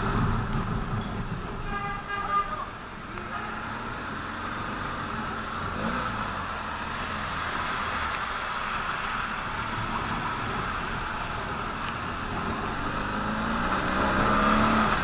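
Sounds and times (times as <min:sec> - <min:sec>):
motorcycle riding on wet road: 0:00.0 - 0:15.0.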